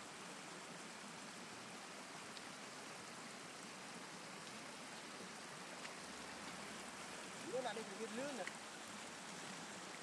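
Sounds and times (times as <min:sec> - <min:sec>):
floodwater running and splashing: 0:00.0 - 0:10.0.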